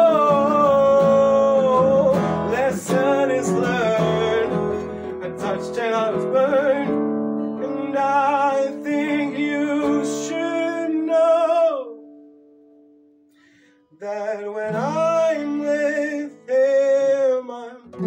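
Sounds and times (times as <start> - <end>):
man singing: 0.0 - 12.2, 13.9 - 18.0
acoustic guitar: 0.0 - 18.0.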